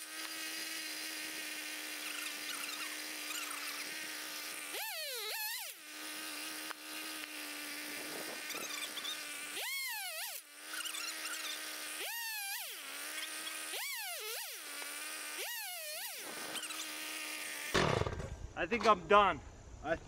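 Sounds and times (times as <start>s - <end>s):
chainsaw engine idling and revving: 0.0s - 18.2s.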